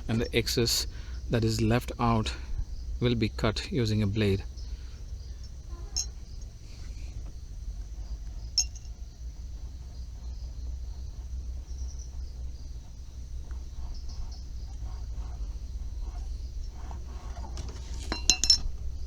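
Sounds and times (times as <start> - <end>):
insects chirring: 0.0 - 19.0
low hum: 0.0 - 19.0.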